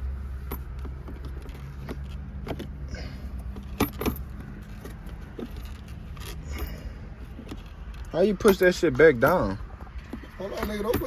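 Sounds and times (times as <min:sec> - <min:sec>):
clicks and rattles of parts handled: 0:00.1 - 0:11.0.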